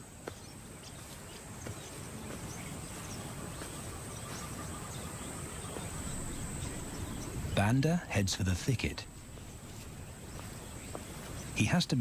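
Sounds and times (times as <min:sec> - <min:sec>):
soft background hiss: 0:00.0 - 0:12.0.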